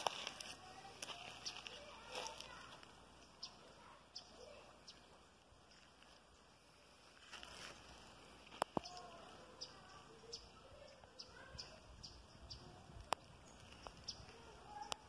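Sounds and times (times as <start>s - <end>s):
small bird chirping: 0.0s - 6.5s, 7.3s - 15.0s.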